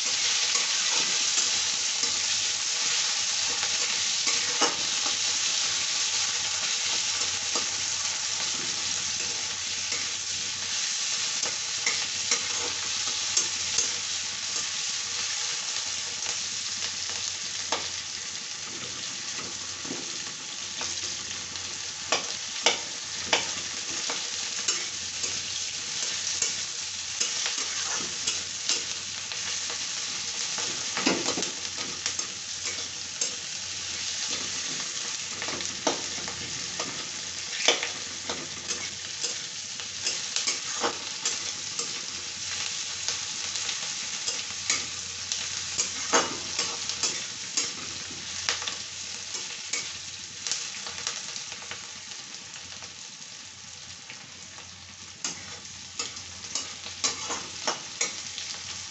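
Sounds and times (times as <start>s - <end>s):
onions sizzling in hot oil: 0.0s - 58.9s.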